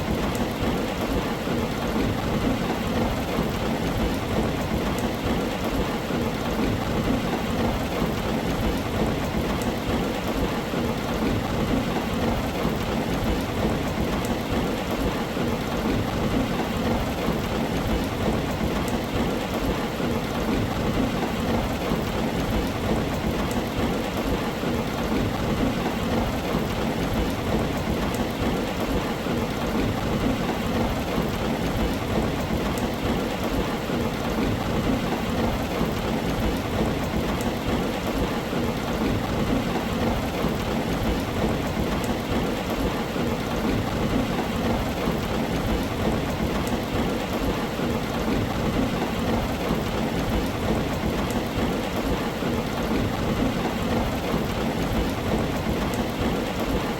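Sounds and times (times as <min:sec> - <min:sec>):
heavy rain on a tin roof: 0:00.0 - 0:56.9.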